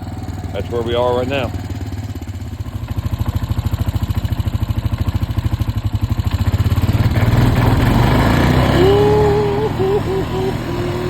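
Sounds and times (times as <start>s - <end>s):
atv engine idling and revving: 0.0s - 11.0s.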